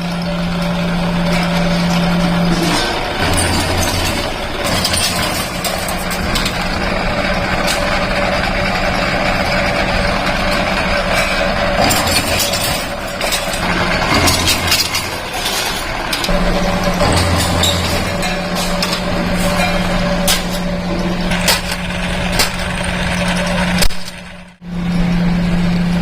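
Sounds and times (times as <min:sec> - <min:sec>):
factory machinery hum: 0:00.0 - 0:26.0.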